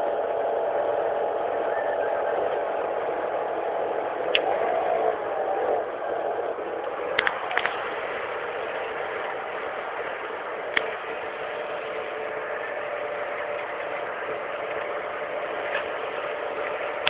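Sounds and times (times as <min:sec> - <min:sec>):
car engine drone: 0:00.0 - 0:17.0
wind and road noise: 0:00.0 - 0:17.0.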